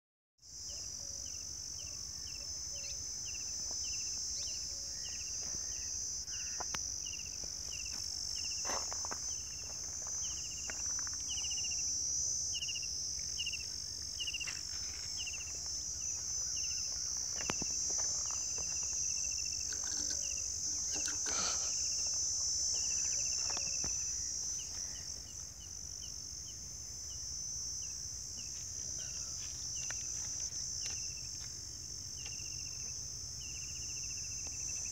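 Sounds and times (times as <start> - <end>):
high-pitched insect chorus: 0.4 - 34.9
short insect chirps: 0.5 - 32.8.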